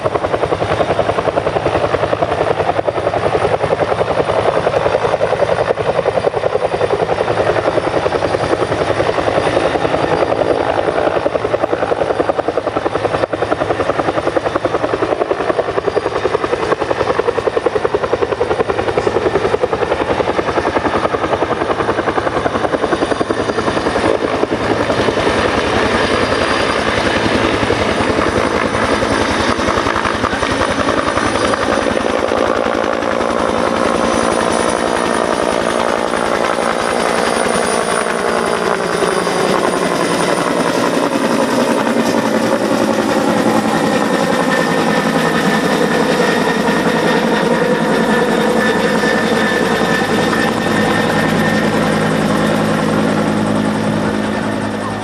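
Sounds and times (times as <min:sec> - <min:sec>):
helicopter rotor chop: 0:00.0 - 0:55.0.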